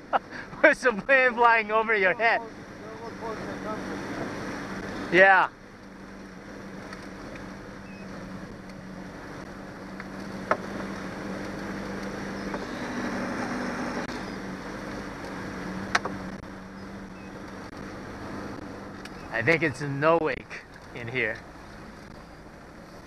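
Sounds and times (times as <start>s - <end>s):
outboard motor running: 0.0s - 23.0s
wind and water hiss: 0.0s - 23.0s.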